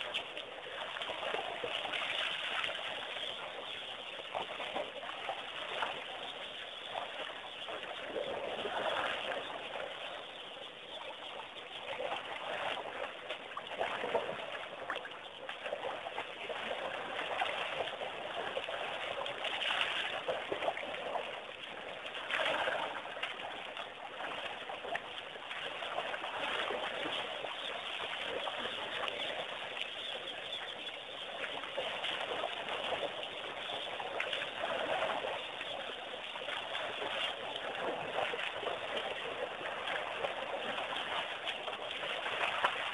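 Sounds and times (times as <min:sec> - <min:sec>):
mud and water sloshing: 0:00.0 - 0:10.3, 0:10.9 - 0:42.9.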